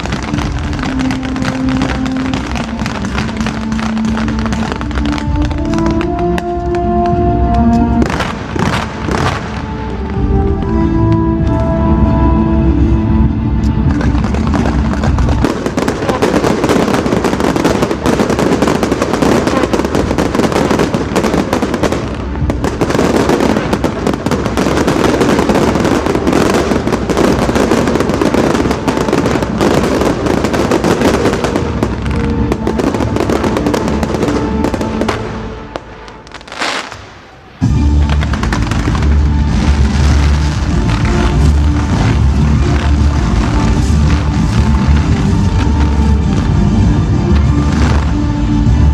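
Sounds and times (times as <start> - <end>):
fireworks bangs and crackling: 0.0 - 48.9
music: 0.0 - 48.9.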